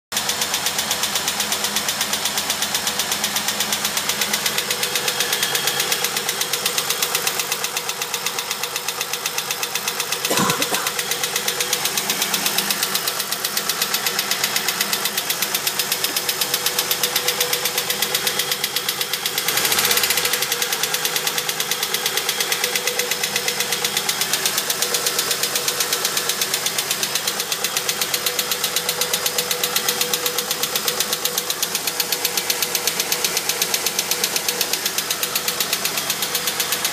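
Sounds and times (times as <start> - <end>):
car engine ticking: 0.2 - 36.9.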